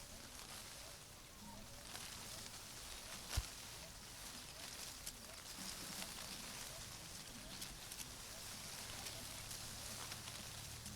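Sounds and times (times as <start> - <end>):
leaves rustling in wind: 0.0 - 10.9.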